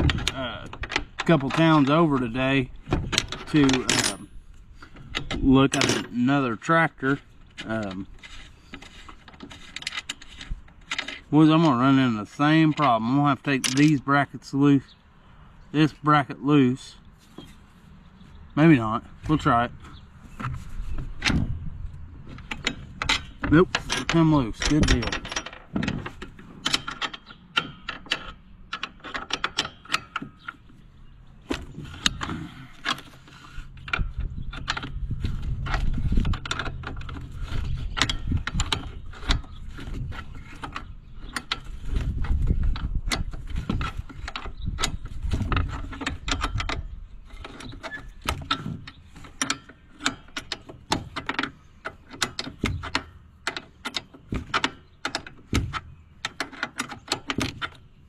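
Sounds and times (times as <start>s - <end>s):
metal parts clinking: 0.0s - 14.1s, 22.2s - 30.6s, 31.5s - 57.9s
low mechanical hum: 0.0s - 58.0s.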